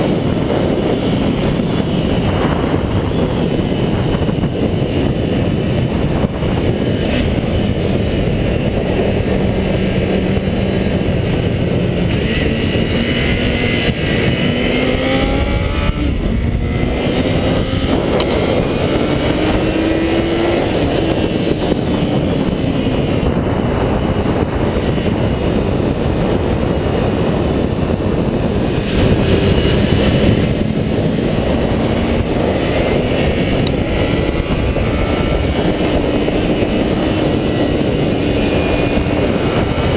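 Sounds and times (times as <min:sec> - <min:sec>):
motorcycle engine revving high: 0:00.0 - 0:39.9
wind rushing on microphone: 0:00.0 - 0:39.9.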